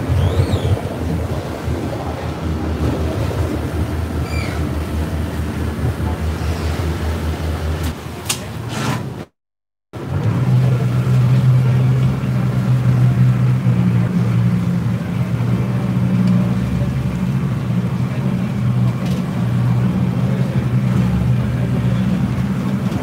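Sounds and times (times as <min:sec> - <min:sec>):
boat engine humming: 0:00.0 - 0:09.3, 0:10.0 - 0:23.0.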